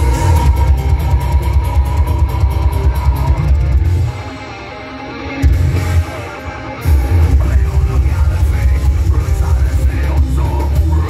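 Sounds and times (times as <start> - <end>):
heavy metal band playing live: 0.0 - 11.0.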